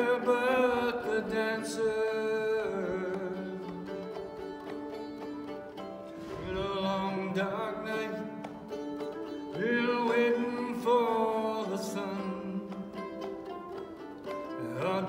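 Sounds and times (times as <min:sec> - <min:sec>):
mandolin strummed and picked: 0:00.0 - 0:15.0.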